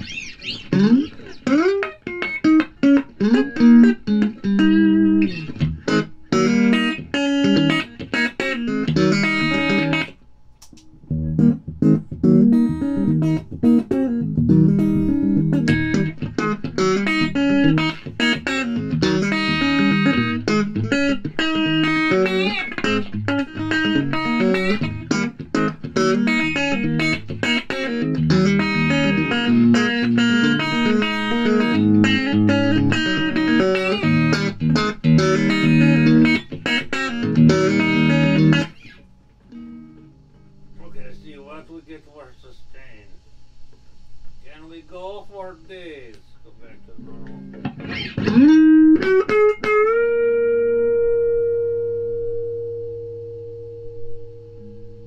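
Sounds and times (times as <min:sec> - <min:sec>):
electric guitar runs and chords: 0:00.0 - 0:10.2, 0:11.0 - 0:41.5, 0:47.0 - 0:55.0.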